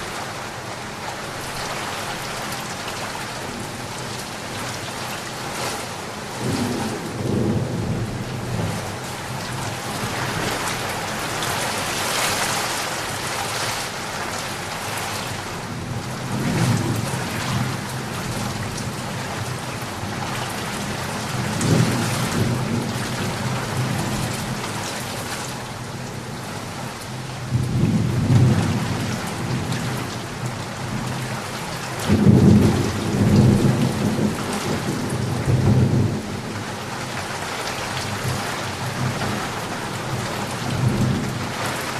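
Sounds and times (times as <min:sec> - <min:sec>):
heavy rain pattering: 0:00.0 - 0:41.9.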